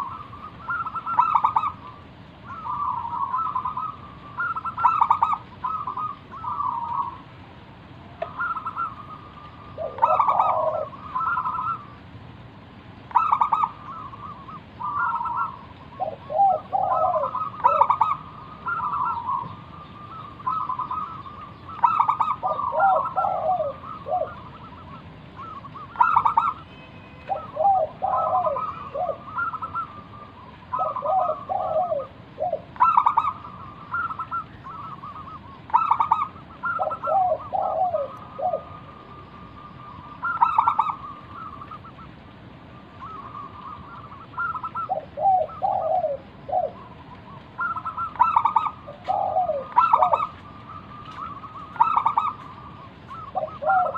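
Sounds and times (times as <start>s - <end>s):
dove cooing song: 0.0s - 53.9s.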